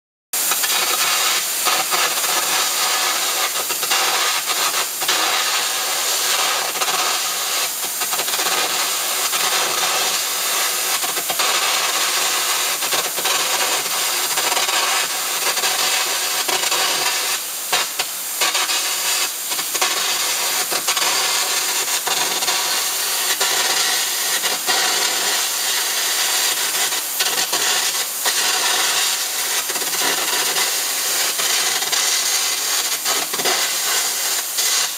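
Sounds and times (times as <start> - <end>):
arc gouging hiss with crackles: 0.4 - 34.9.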